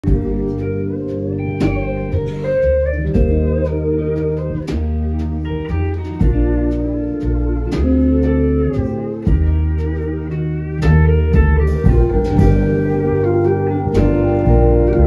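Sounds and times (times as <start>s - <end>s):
electric guitar: 0.0s - 15.0s
keyboards: 0.0s - 15.0s
pedal steel guitar: 0.0s - 15.0s
upright bass: 0.0s - 15.0s.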